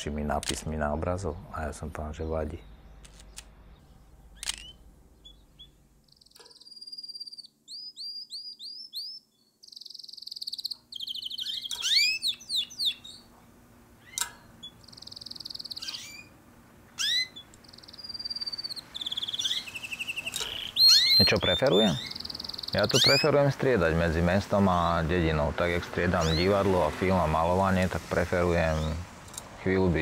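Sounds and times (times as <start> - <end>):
canaries chirping and trilling: 1.1 - 16.3, 16.9 - 29.0.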